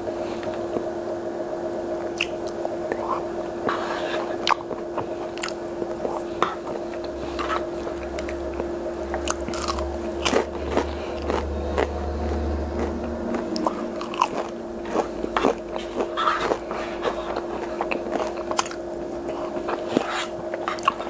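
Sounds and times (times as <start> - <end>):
chewing crunchy food: 2.0 - 21.0.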